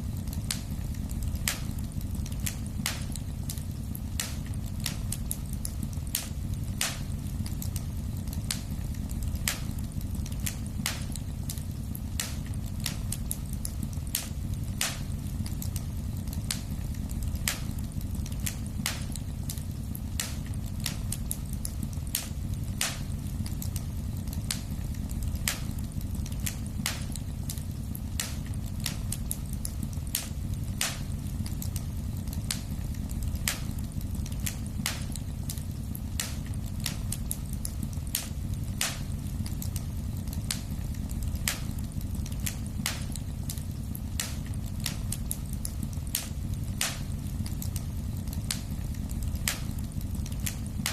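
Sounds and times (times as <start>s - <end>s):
low rumble of flames: 0.0s - 50.9s
wood fire crackling: 0.0s - 50.9s.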